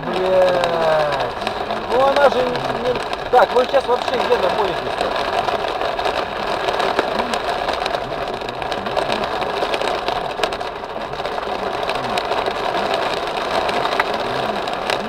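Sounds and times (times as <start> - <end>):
hail drumming on a car: 0.0 - 15.0.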